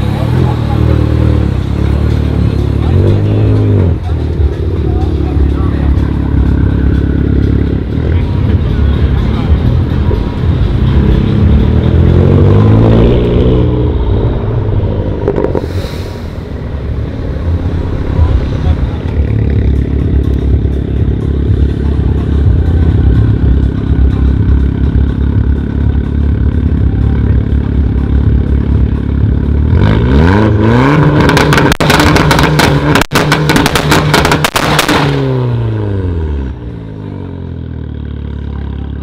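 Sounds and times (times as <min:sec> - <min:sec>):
car exhaust idling and revving: 0:00.0 - 0:39.0
exhaust crackling: 0:00.0 - 0:39.0.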